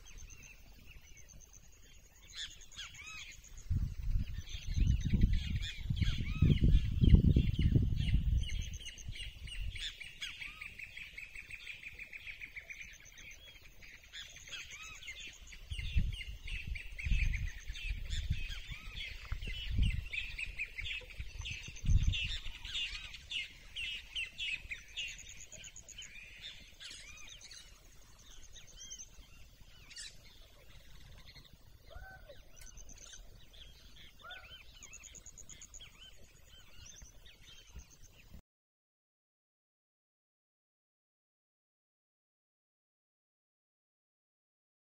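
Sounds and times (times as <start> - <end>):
songbirds singing: 0.0 - 38.4.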